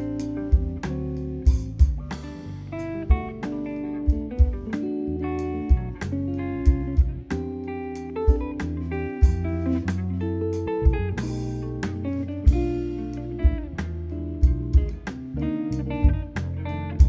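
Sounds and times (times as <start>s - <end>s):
bass line: 0.0s - 17.0s
electric guitar playing: 0.0s - 17.0s.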